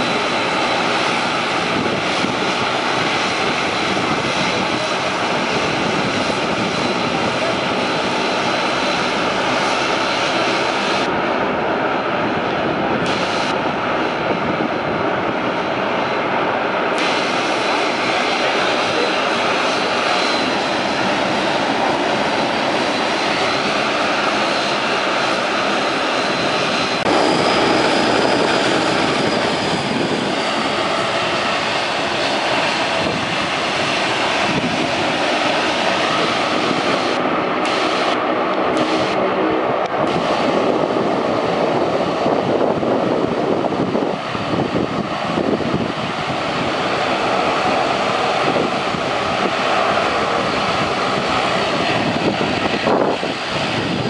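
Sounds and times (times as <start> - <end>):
turboprop plane taxiing: 0.0 - 54.0.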